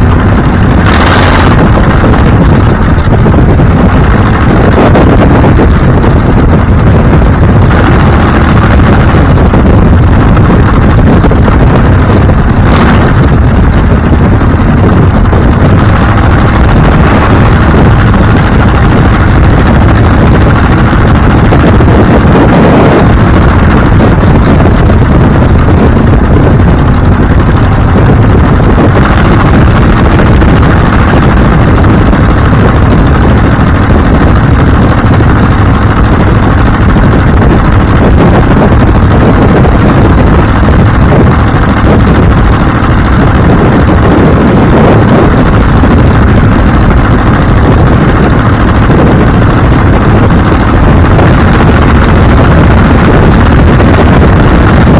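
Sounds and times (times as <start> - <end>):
road and wind noise: 0.0 - 54.9
vehicle engine: 0.0 - 54.9.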